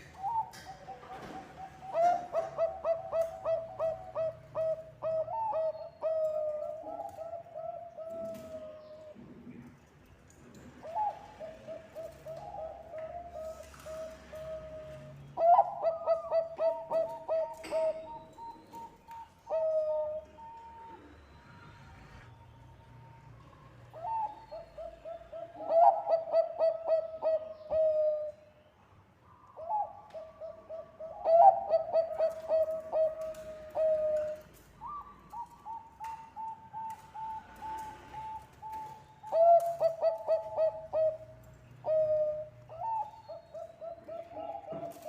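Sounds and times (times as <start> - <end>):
dove cooing: 0.0 - 9.6, 10.8 - 22.3, 23.5 - 28.4, 29.6 - 45.0.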